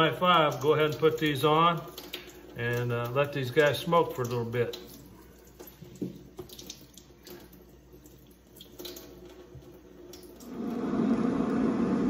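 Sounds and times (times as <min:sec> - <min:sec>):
faint running water from tap: 0:00.0 - 0:12.0.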